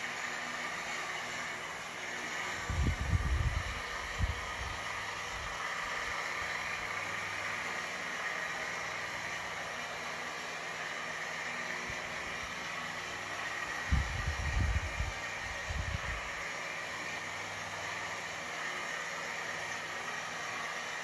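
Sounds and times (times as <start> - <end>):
model trains whirring on rails: 0.0 - 21.0.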